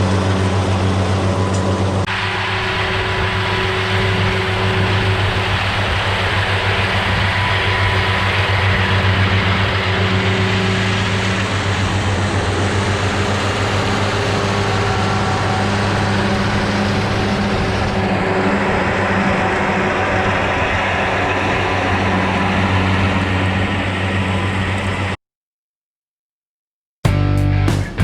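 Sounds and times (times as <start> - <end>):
tractor engine droning: 0.0 - 25.2
working machinery noise: 0.0 - 25.2.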